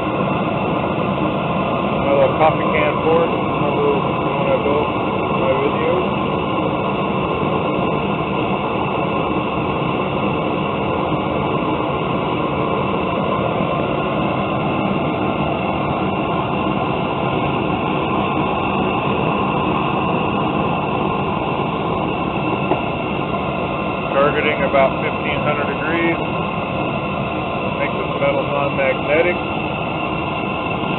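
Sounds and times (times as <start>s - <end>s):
gas torch burner rushing: 0.0s - 30.9s.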